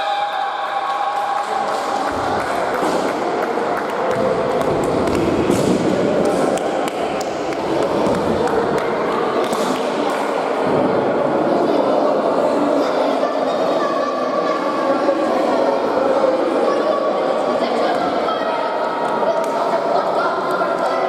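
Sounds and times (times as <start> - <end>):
hubbub of children's voices: 0.0 - 21.0.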